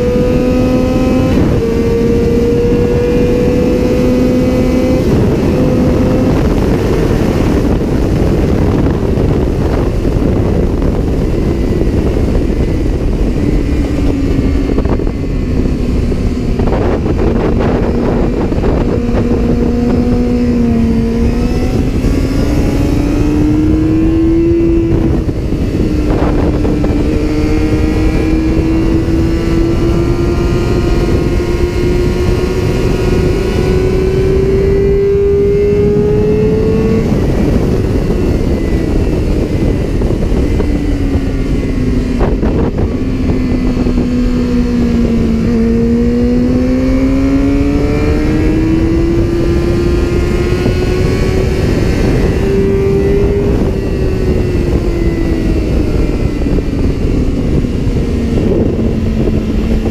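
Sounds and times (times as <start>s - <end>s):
motorcycle engine at high revs: 0.0s - 59.9s
wind rushing: 0.0s - 59.9s.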